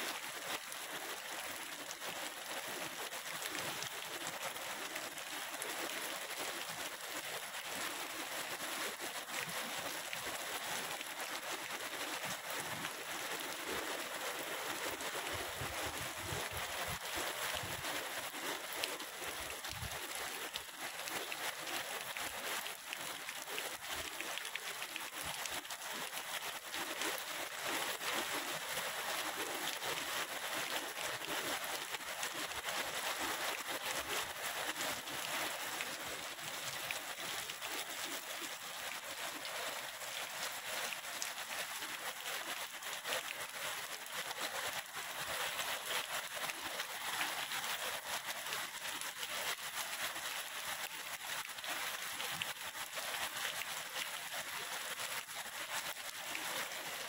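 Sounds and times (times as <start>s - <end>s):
rain on water and grass: 0.0s - 57.0s.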